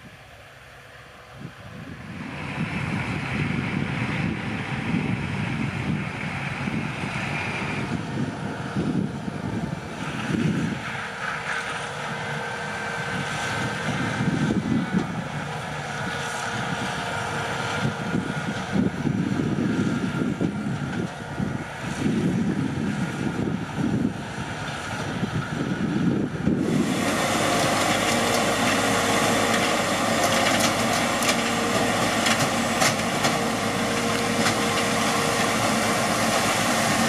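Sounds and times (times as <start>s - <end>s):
harvester machinery noise: 0.0s - 37.0s
wind on microphone: 1.4s - 11.1s, 13.0s - 37.0s.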